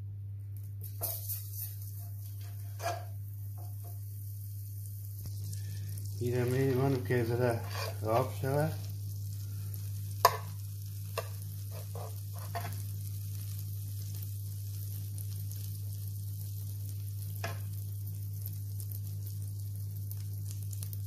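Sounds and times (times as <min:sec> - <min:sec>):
steady low hum: 0:00.0 - 0:21.0
butter sizzling in a frying pan: 0:00.7 - 0:21.0.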